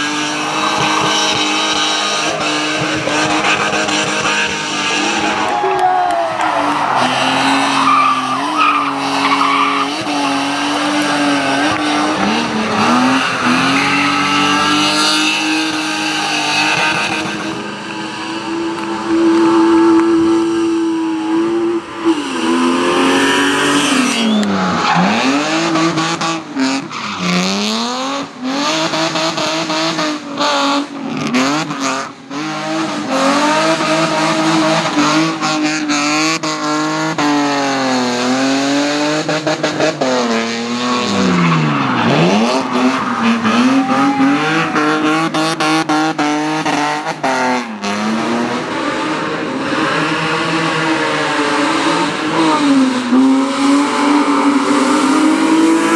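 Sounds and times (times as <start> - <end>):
race car engines revving: 0.0 - 55.9.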